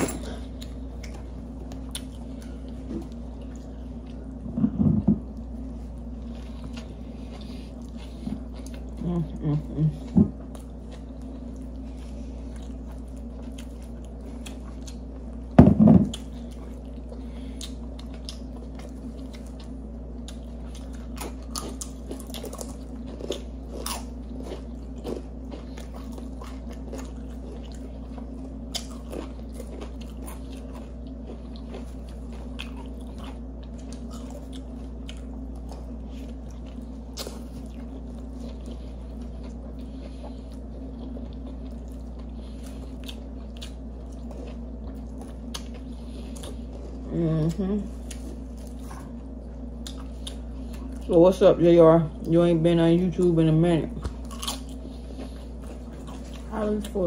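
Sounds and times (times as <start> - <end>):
chewing and crunching: 0.0 - 57.0
low hum: 0.0 - 57.0.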